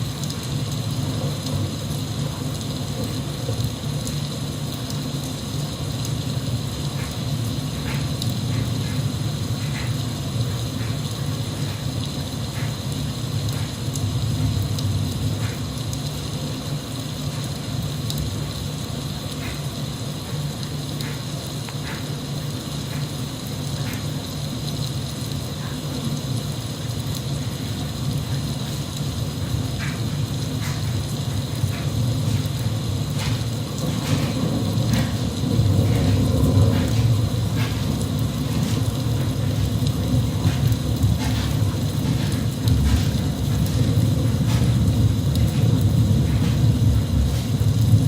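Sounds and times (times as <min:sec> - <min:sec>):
raindrop ticks: 0:00.0 - 0:48.0
steady rain hiss: 0:00.0 - 0:48.0.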